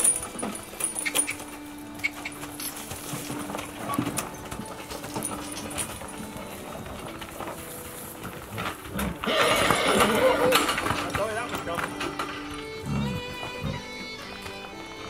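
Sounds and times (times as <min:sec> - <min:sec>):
harness and chains clinking: 0:00.0 - 0:15.0
horse hoof steps: 0:00.0 - 0:15.0.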